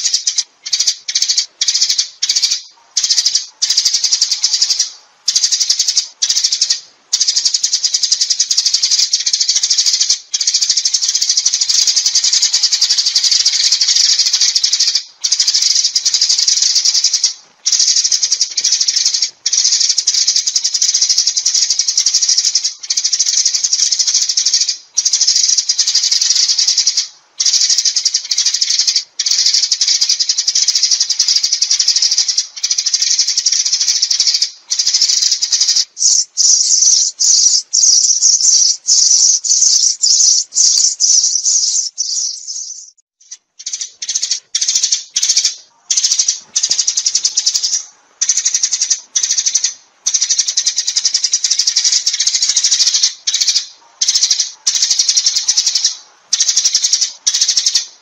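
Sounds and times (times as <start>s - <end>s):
sparrows chirping and chattering: 0.0s - 58.0s.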